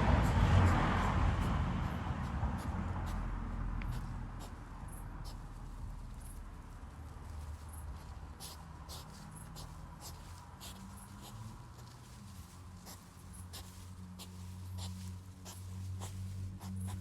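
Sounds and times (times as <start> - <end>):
scratchy rustling in grass: 0.0 - 17.0.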